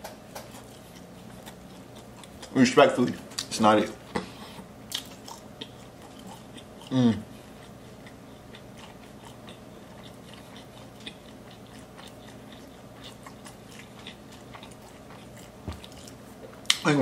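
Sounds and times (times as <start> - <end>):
person chewing food: 0.0 - 16.8.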